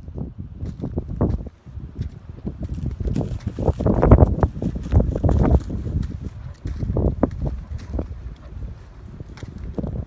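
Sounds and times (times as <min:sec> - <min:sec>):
footsteps crunching through corn stubble: 0:00.6 - 0:10.0.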